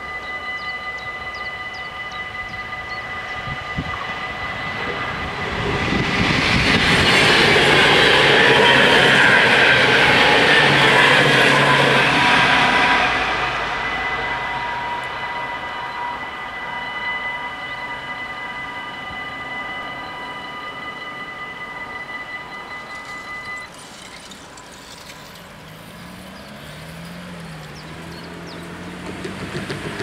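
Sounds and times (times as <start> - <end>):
electric train passing: 0.0 - 30.0
level crossing warning bells: 0.0 - 30.0.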